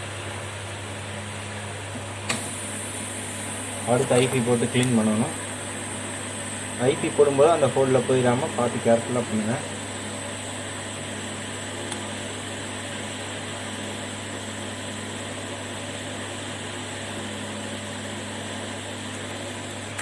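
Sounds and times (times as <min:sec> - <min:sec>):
fan whirring: 0:00.0 - 0:20.0
low electrical hum: 0:00.0 - 0:20.0.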